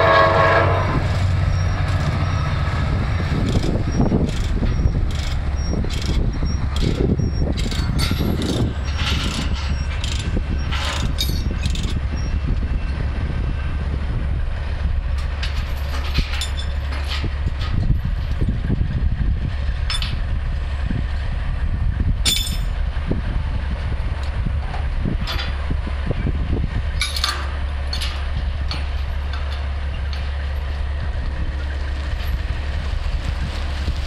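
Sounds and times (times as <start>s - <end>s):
diesel truck engine running: 0.0s - 34.0s
metal clanks and rattles: 1.0s - 13.0s, 15.0s - 20.6s, 22.0s - 23.2s, 24.0s - 32.7s.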